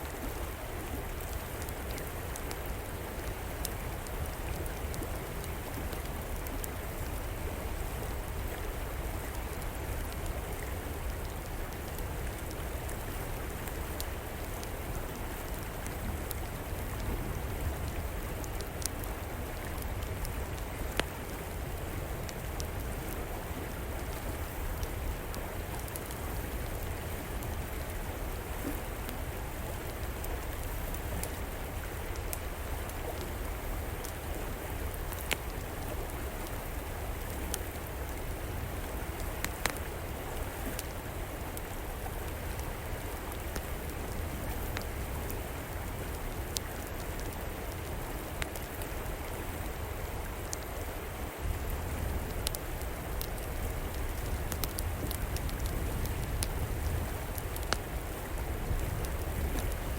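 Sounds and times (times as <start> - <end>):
river water flowing: 0.0 - 59.9
wood fire crackling: 0.0 - 59.9.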